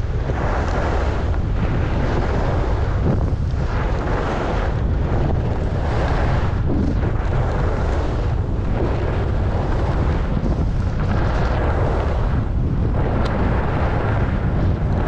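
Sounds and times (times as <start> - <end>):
wind buffeting microphone: 0.0 - 15.0
skis scraping on packed snow: 0.3 - 12.4.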